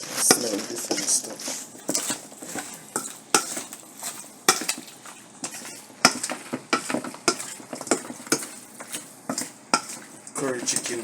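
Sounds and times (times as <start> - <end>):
spoon scraping cooking pot: 0.0 - 11.0.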